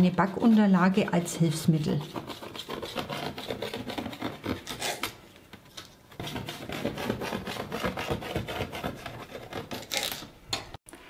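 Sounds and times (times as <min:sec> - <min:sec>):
knife sawing through cake: 0:00.0 - 0:05.1, 0:06.2 - 0:09.9.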